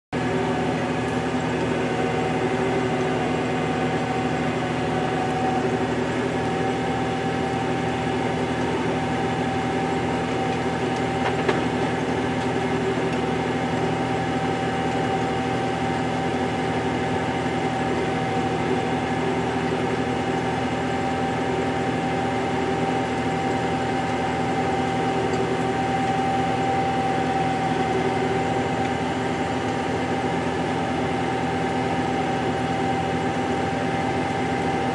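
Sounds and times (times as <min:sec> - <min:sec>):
tractor engine drone: 0:00.1 - 0:34.9.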